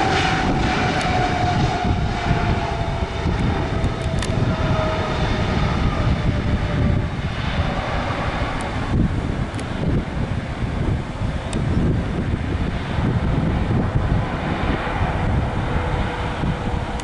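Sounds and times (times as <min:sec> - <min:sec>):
jet airliner engine whine: 0:00.0 - 0:17.0
wind rumble on microphone: 0:00.0 - 0:17.0.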